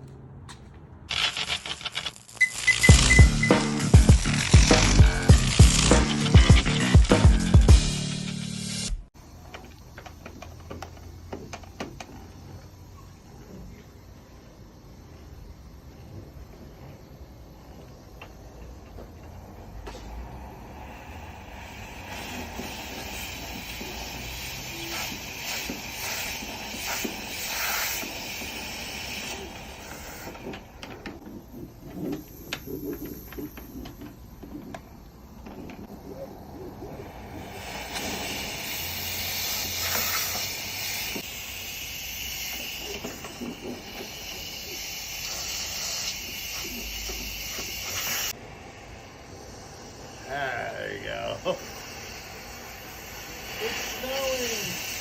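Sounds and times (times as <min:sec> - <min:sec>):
hissing rush of air in vent: 0:09.1 - 0:55.0.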